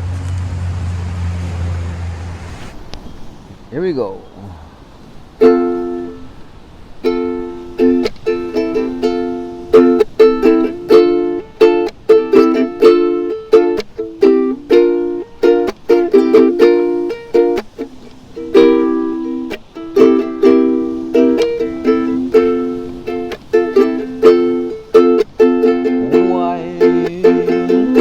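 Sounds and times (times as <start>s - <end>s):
ukulele strumming: 5.4s - 28.0s.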